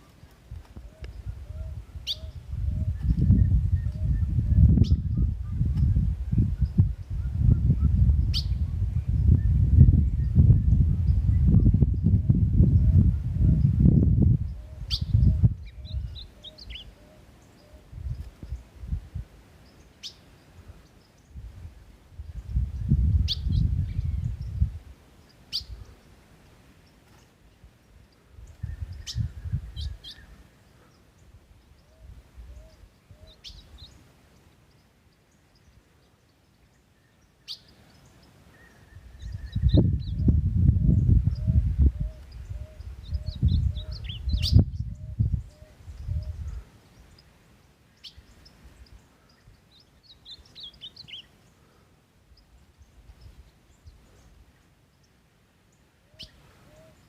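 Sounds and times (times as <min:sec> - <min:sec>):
bird chirping: 0:00.0 - 0:13.7, 0:14.4 - 0:18.7, 0:19.6 - 0:21.4, 0:22.2 - 0:57.0.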